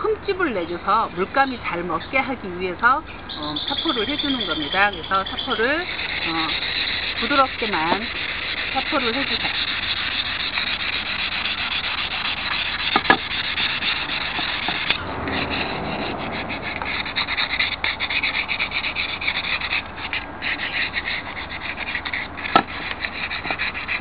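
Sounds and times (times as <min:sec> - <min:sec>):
sandpaper rubbing on wood: 0:03.4 - 0:24.0.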